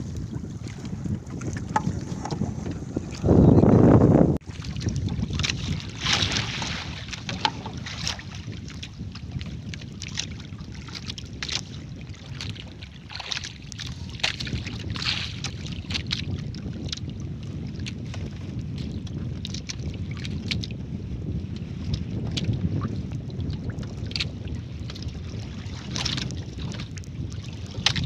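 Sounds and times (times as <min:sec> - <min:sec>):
water splashing against boat hull: 0:00.0 - 0:28.0
wind rumbling on microphone: 0:00.0 - 0:28.0.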